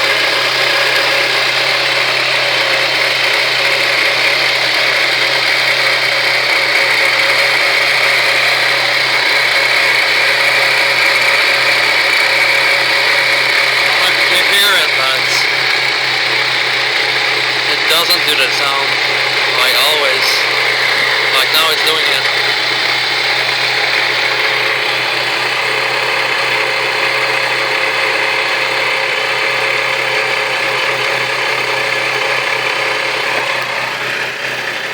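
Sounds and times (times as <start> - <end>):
car whirring rush: 0.0 - 34.9
steady mechanical noise: 0.0 - 34.9.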